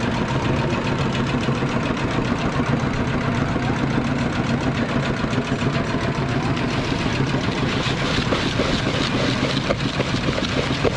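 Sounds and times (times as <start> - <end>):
engine idling: 0.0 - 10.9
street noise: 0.0 - 10.9.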